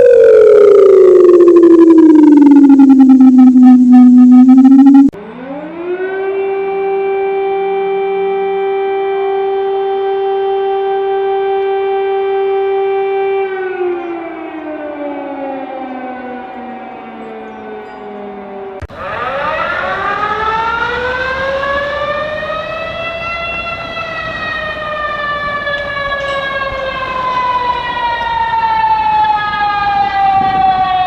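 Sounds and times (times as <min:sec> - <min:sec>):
civil defense sirens: 0:00.0 - 0:31.0.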